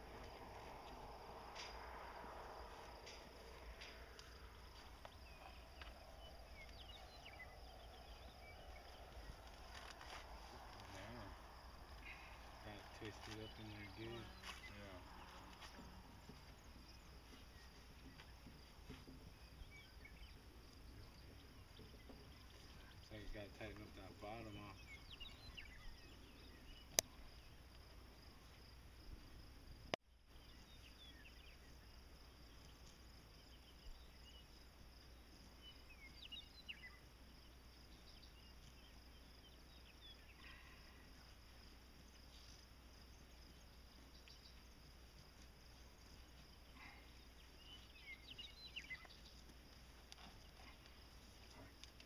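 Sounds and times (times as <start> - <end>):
faint chirps: 0.0 - 29.4, 30.3 - 52.0
high insect trill: 0.0 - 52.0.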